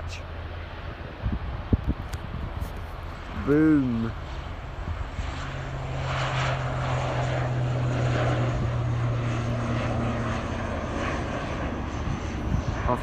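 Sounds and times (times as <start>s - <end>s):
propeller hum: 0.0s - 13.0s.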